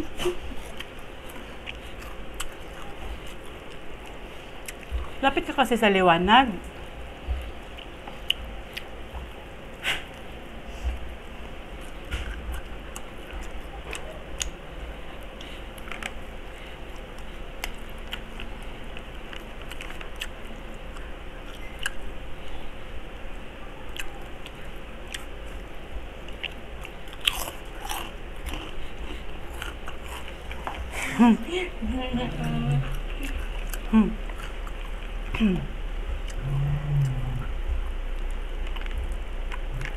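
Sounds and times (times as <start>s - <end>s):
crunching and chewing crispy food: 0.0s - 5.5s, 6.7s - 31.2s, 32.2s - 39.9s.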